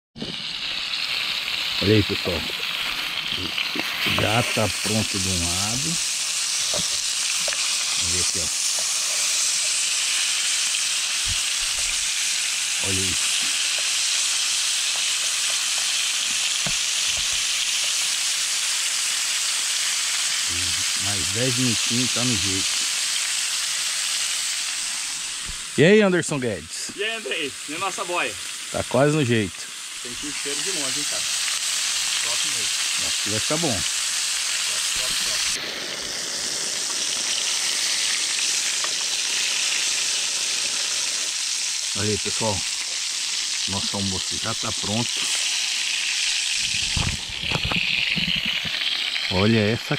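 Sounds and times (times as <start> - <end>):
meat sizzling in a pan: 0.2 - 49.9.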